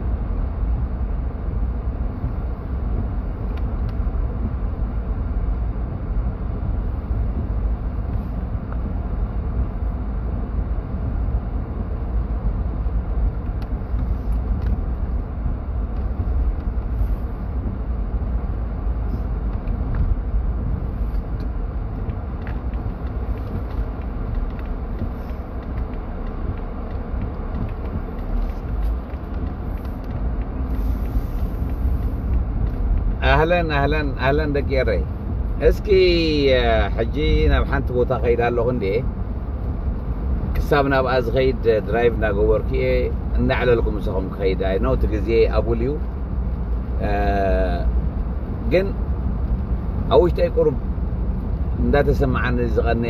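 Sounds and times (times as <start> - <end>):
car cabin road and engine rumble: 0.0 - 53.0.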